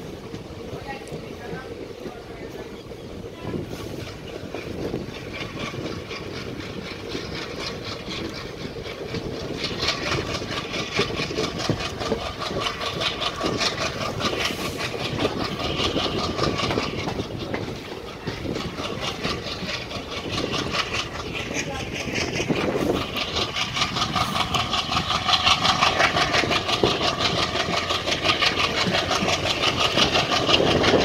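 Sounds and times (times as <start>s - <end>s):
diesel locomotive chugging: 0.0s - 31.0s
train wheels on rails: 0.0s - 31.0s.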